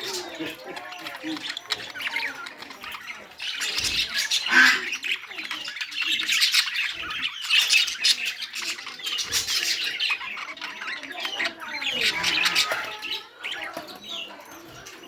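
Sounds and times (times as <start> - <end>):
bird squawking: 0.0 - 13.2.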